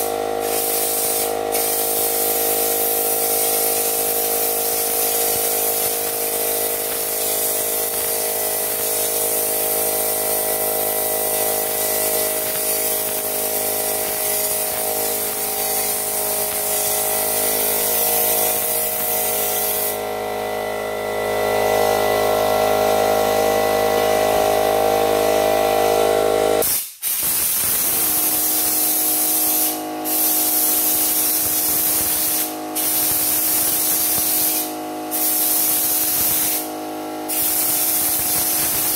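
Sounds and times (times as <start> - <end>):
spray gun hissing: 0.0 - 20.0, 26.6 - 36.7, 37.3 - 38.9
air compressor humming: 0.0 - 26.8, 27.4 - 38.9.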